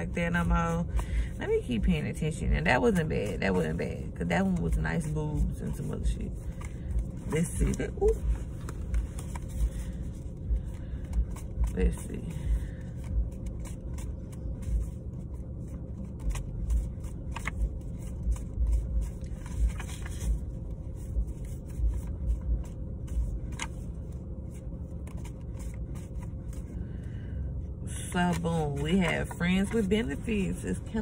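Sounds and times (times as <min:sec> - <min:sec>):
low steady rumble: 0:00.0 - 0:31.0
cards being shuffled: 0:04.5 - 0:26.8, 0:28.0 - 0:31.0.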